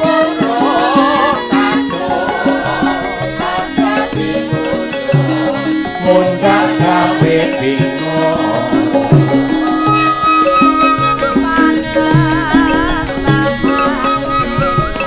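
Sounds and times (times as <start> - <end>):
hand drums: 0.0 - 15.0
metallophones and gong-chimes melody: 0.0 - 15.0
woman singing wavering vocal line: 0.0 - 15.0.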